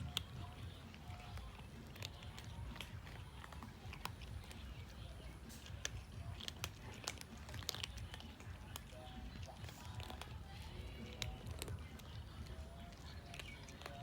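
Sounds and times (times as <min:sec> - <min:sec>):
cats crunching food: 0:00.0 - 0:14.0.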